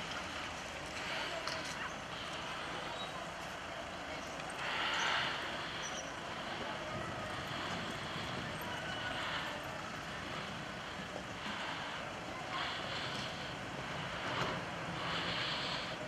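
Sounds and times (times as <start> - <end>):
tyres on wet road: 0.0 - 16.0.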